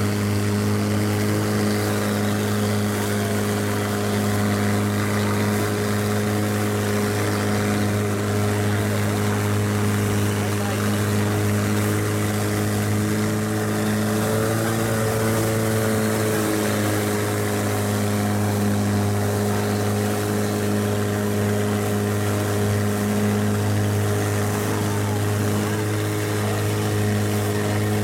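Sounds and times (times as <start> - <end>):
boat engine drone: 0.0 - 28.0.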